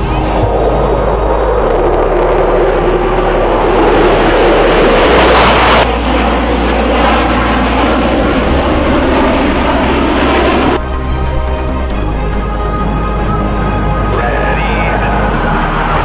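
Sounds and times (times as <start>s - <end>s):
jet aircraft passing overhead: 0.0s - 16.0s.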